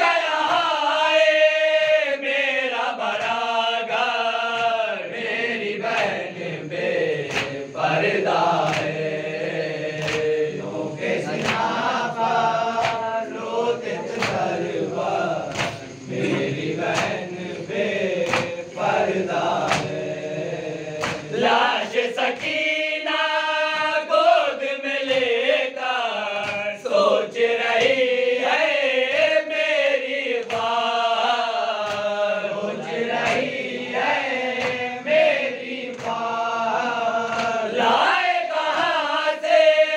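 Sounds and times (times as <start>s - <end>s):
lead reciter chanting: 0.0s - 39.9s
men chanting in unison: 0.0s - 39.9s
rhythmic chest-beating slaps: 0.0s - 39.9s.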